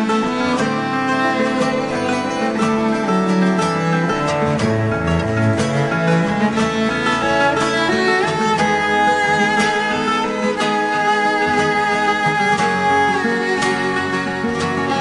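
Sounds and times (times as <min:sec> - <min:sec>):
fiddle: 0:00.0 - 0:15.0
guitar: 0:00.0 - 0:15.0.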